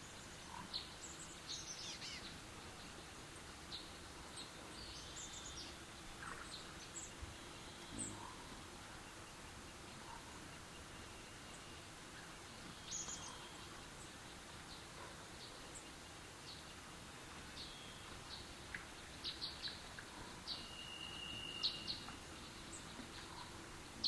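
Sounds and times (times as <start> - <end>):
birds chirping: 0.0 - 24.0
steady background hiss: 0.0 - 24.0.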